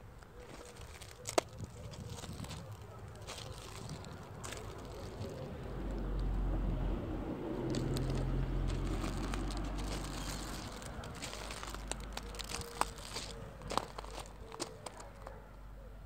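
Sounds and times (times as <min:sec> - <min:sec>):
crackling clicks and rustles: 0:00.1 - 0:06.4, 0:07.5 - 0:15.4.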